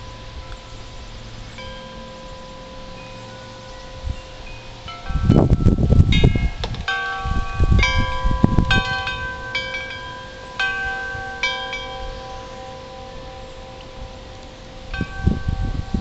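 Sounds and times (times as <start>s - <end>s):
wind chimes ringing: 0.0s - 16.0s
wind rumble on microphone: 0.0s - 16.0s.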